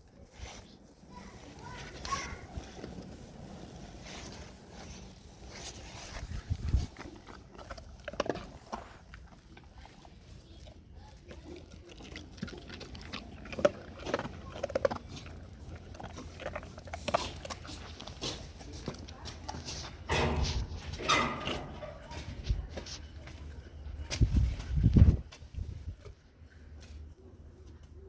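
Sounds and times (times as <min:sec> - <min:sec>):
dog chewing and crunching treats: 0:00.0 - 0:23.6.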